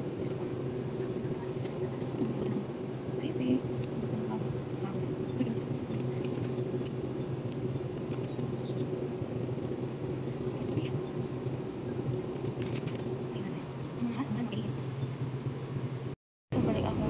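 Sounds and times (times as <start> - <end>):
refrigerated display cases humming: 0.0 - 17.0.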